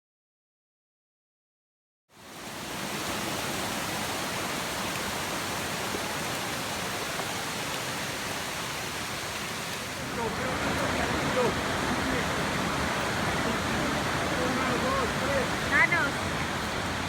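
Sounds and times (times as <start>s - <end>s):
rush of falling water: 2.1s - 17.0s.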